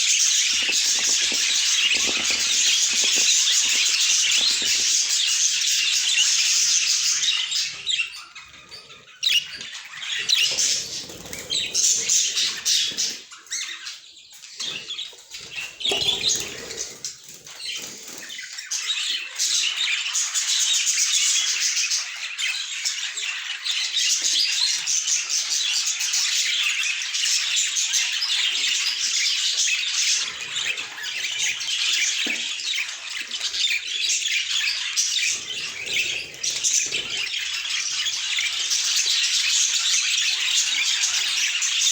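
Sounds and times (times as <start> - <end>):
budgerigars chattering: 0.0 - 14.0, 14.6 - 41.9.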